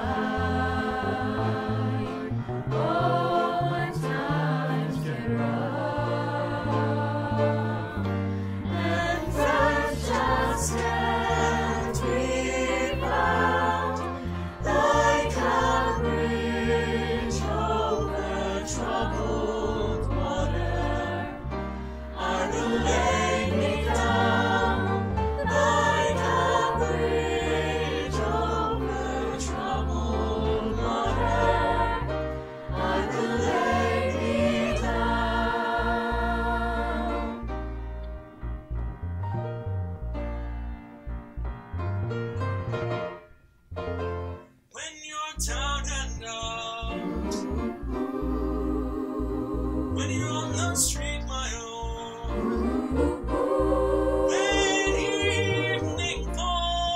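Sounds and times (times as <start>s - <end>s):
choir singing: 0.0s - 37.7s, 46.8s - 56.9s.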